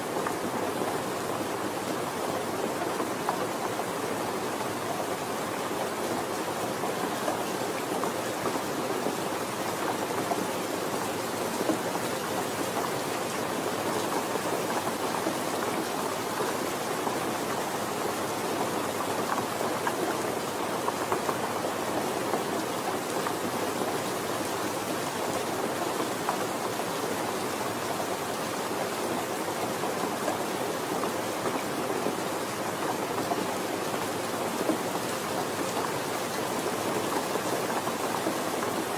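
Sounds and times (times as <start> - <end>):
patter of raindrops: 0.0 - 38.9
steady rain hiss: 0.0 - 38.9.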